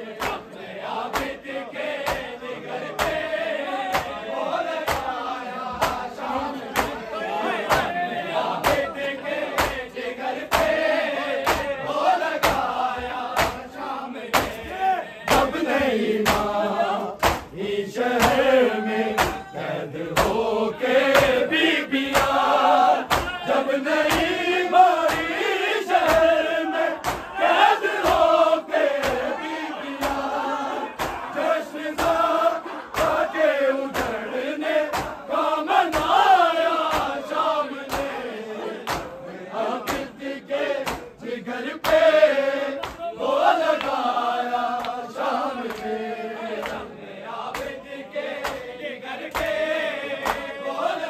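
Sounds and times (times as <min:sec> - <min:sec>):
men chanting in unison: 0:00.0 - 0:51.0.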